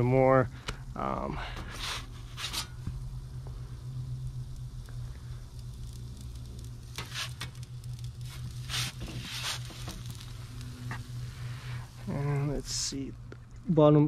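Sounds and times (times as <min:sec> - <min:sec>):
pizza oven humming: 0:00.0 - 0:14.0
pizza sizzling: 0:00.0 - 0:14.0.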